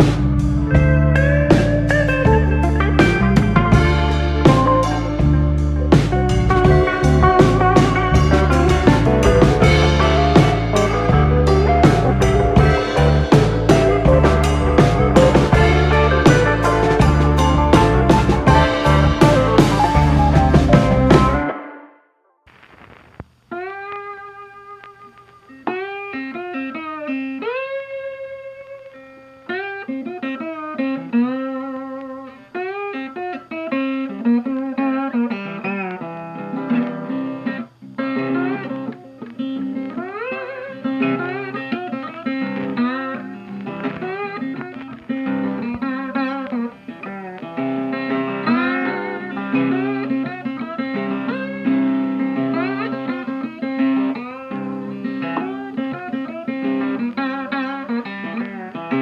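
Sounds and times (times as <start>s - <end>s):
instrumental guitar music: 0.0s - 21.9s, 22.9s - 59.0s.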